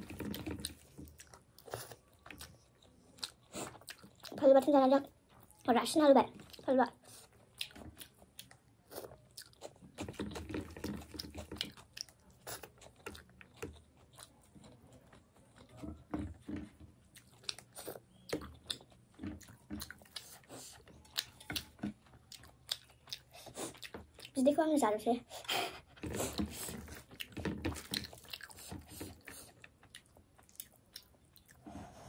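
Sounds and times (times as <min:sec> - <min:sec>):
person chewing with wet smacks: 0:00.0 - 0:31.7.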